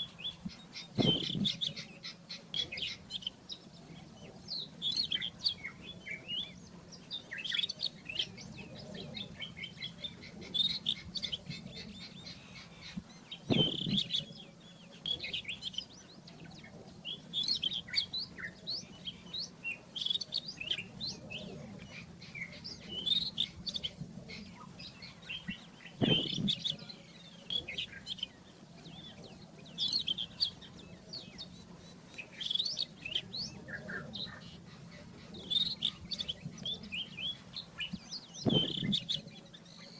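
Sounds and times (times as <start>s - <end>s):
bird singing: 0.0s - 39.9s
faint low hum: 0.0s - 39.9s.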